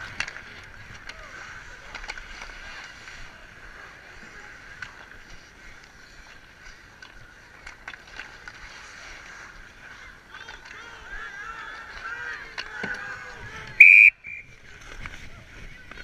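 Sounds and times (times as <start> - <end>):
hockey sticks and puck clacking: 0.0 - 13.7
skates scraping on ice: 0.0 - 13.8, 14.4 - 16.0
crowd murmur: 0.8 - 16.0.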